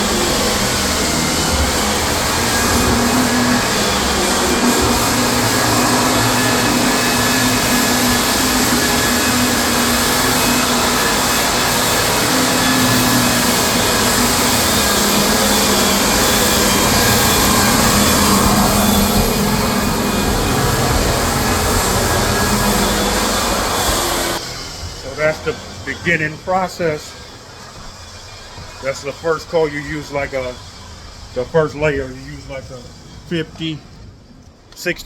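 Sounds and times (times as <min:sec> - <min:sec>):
floor sanding machine grinding: 0:00.0 - 0:33.9.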